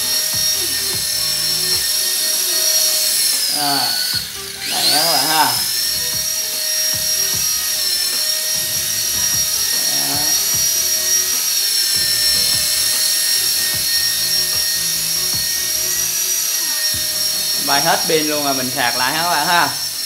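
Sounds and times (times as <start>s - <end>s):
toy helicopter motor whine: 0.0s - 20.0s.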